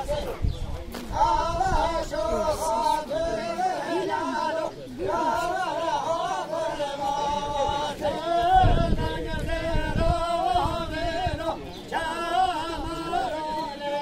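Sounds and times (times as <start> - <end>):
man singing: 1.1 - 14.0.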